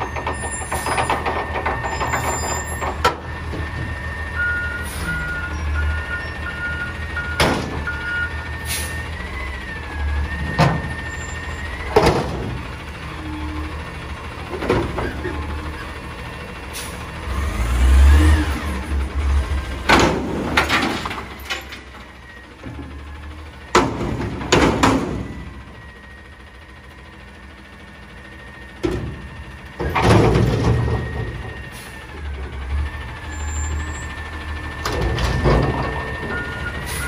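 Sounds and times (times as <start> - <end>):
garbage truck engine revving: 0.0 - 37.0.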